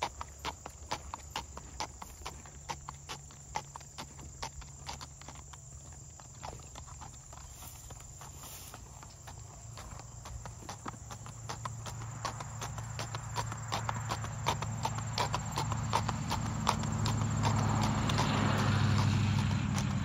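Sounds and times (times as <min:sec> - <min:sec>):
hooves clip-clopping on pavement: 0:00.0 - 0:20.0.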